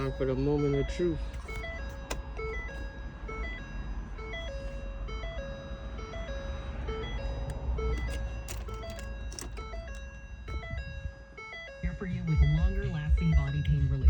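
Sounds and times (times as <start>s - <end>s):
music from car radio: 0.0s - 6.4s, 7.0s - 14.0s
steady low rumble: 0.0s - 14.0s.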